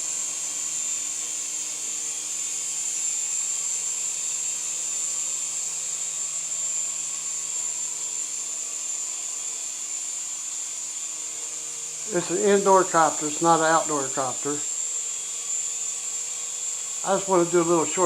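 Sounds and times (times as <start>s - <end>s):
toy helicopter motor whine: 0.0s - 18.0s.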